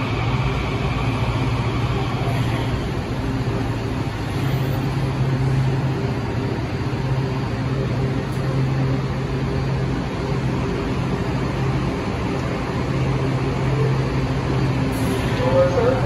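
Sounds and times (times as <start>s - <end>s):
railcar equipment hum: 0.0s - 16.0s.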